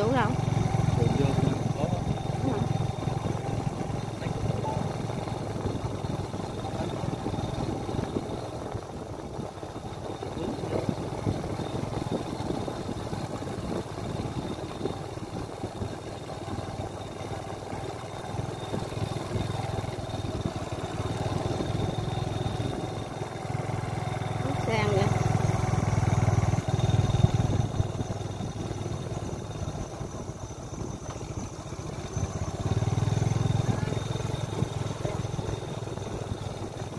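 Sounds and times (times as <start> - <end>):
small motorbike engine running: 0.0 - 36.9.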